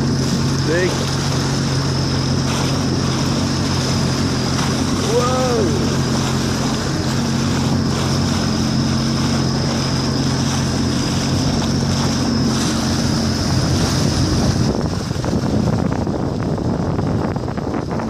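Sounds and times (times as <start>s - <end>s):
jet ski engine humming: 0.0s - 18.0s
rushing water: 0.0s - 18.0s
wind buffeting microphone: 0.0s - 18.0s.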